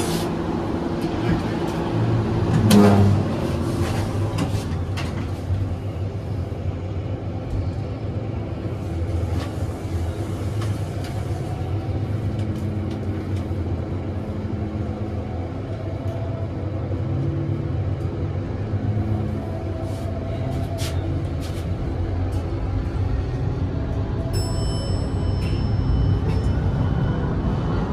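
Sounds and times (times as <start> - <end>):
elevator low rumble and hum: 0.0 - 27.9.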